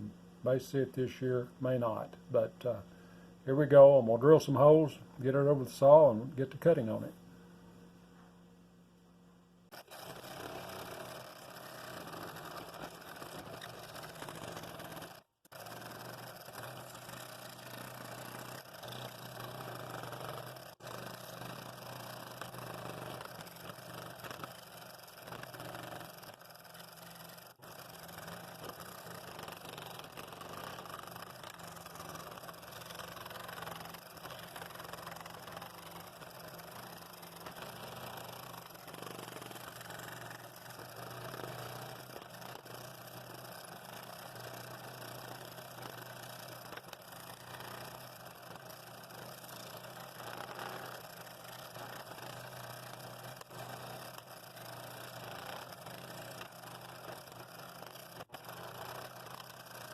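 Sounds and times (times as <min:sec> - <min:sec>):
scroll saw motor hum: 0:09.7 - 0:59.9
saw blade rasping through wood: 0:09.8 - 0:59.9.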